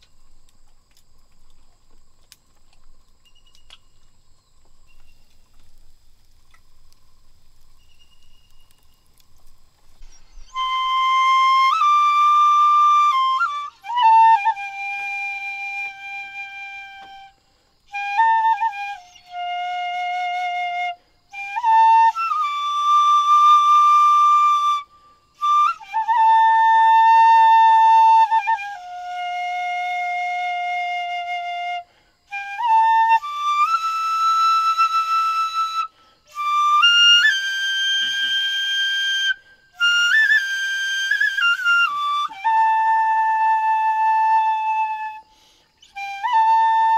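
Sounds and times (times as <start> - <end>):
solo flute melody: 7.6 - 46.9.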